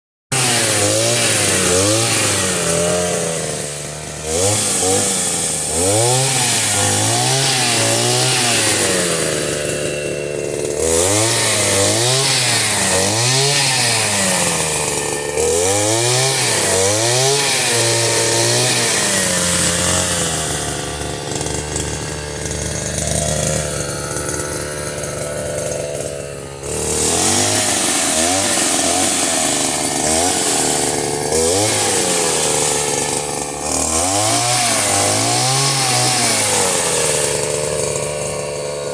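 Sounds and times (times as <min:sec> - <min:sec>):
small engine revving: 0:00.3 - 0:38.9.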